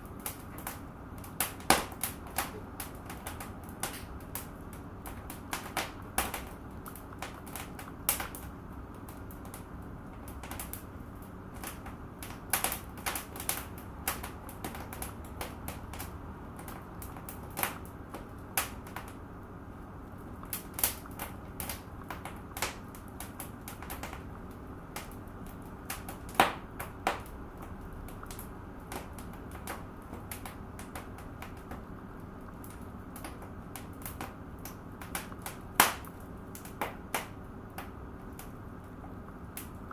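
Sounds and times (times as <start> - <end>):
low rustle of flame: 0.0 - 39.9
wood fire crackling: 0.0 - 39.9.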